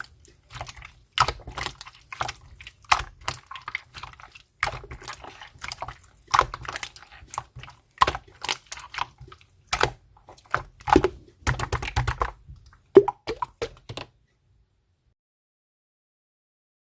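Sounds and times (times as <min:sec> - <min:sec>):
slime popping and squelching: 0:00.0 - 0:14.0.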